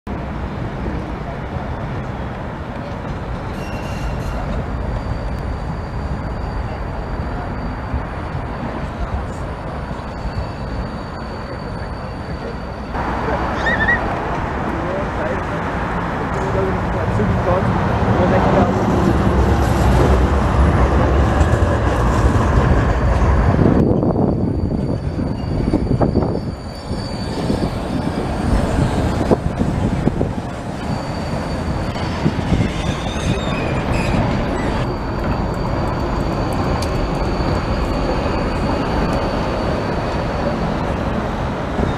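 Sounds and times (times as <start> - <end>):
street noise: 0.1 - 41.9
tram wheels rumbling on rail: 0.1 - 41.9.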